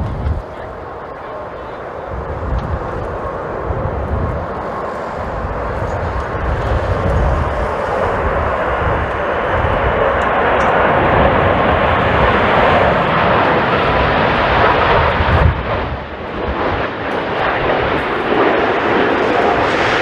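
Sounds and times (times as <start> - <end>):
jet engines roaring: 0.0 - 20.0
wind buffeting microphone: 0.0 - 20.0.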